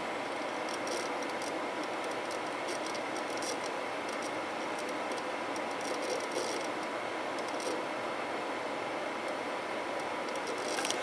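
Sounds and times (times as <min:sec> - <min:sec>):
cooling fans running: 0:00.0 - 0:11.0.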